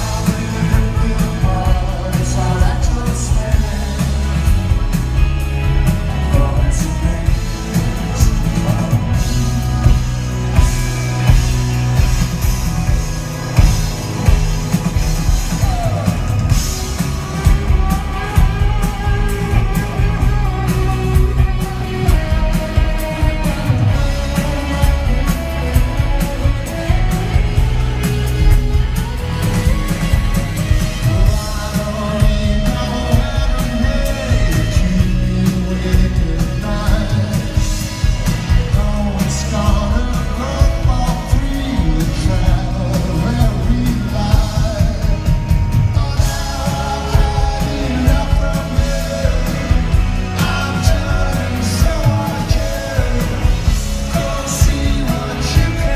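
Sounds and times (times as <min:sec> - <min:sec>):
man singing: 0:00.0 - 0:12.4, 0:13.5 - 0:55.9
live rock band playing: 0:00.0 - 0:55.9.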